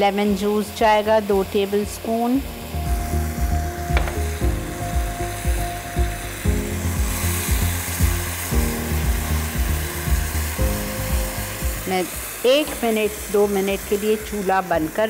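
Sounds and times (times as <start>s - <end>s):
masala sizzling in a wok: 0.0s - 15.0s
soft background music: 0.0s - 15.0s.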